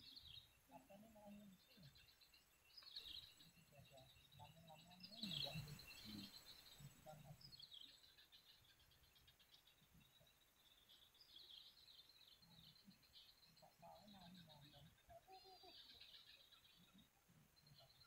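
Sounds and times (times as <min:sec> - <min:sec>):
bird chirping: 0:00.0 - 0:18.0
faint low murmur: 0:00.0 - 0:18.0.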